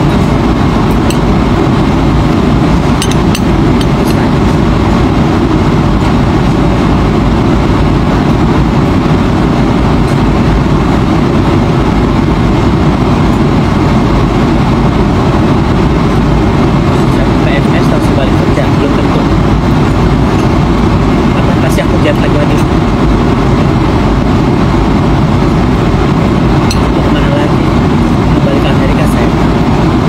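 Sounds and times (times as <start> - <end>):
airliner cabin noise: 0.0 - 30.0.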